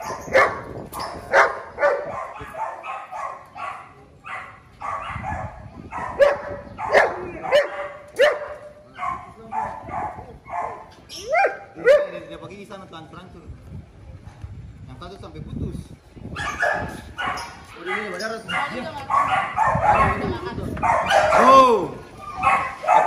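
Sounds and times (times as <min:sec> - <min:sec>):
dog barking excitedly: 0:00.0 - 0:12.2, 0:16.4 - 0:23.0.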